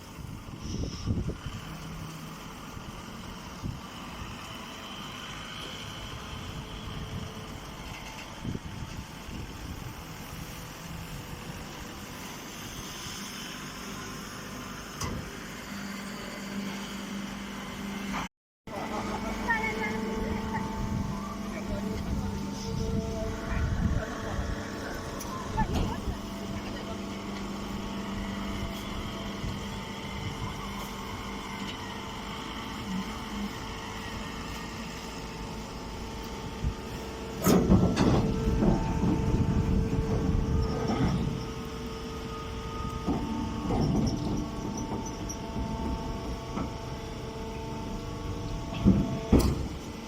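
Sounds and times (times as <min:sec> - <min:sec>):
hydraulic power unit humming: 0:00.0 - 0:50.0
baler machine running: 0:01.8 - 0:50.0.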